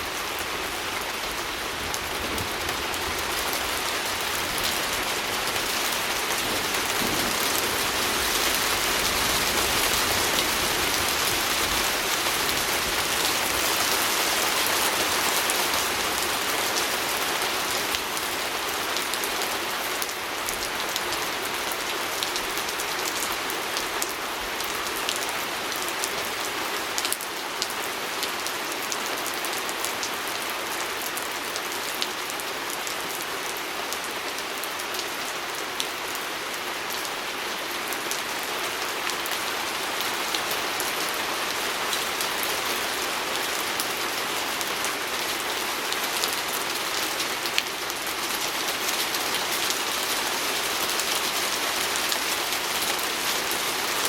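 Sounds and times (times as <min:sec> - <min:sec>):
rain pattering on a window: 0:00.3 - 0:54.0.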